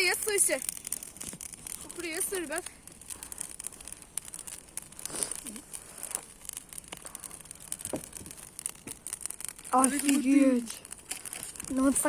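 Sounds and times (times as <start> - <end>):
burning wood popping: 0.0 - 12.0
campfire crackling: 0.0 - 12.0.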